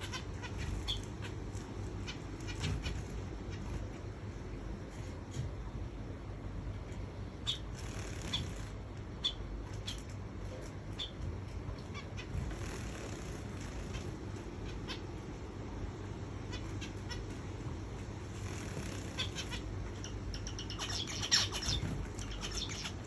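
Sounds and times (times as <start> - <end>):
finches calling: 0.0 - 4.1, 7.3 - 23.0
low steady hum: 0.0 - 23.0.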